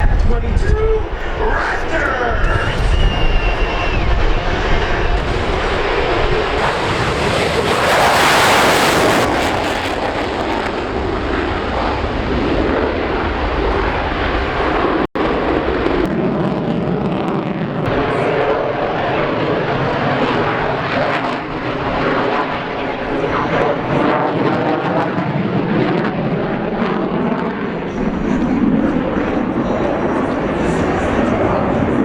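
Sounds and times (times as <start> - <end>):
aircraft engine: 0.0 - 32.0.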